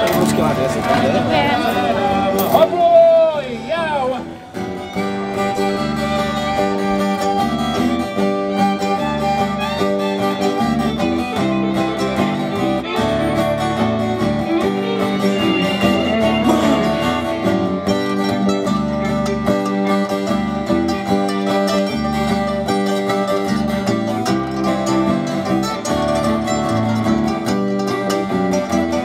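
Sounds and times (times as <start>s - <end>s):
fiddle: 0.0s - 29.0s
guitar: 0.0s - 29.0s.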